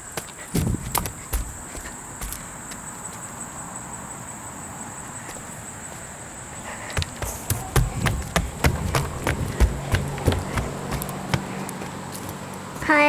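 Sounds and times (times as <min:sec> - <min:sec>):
footsteps on woodland path: 0:00.0 - 0:03.8, 0:05.2 - 0:13.0.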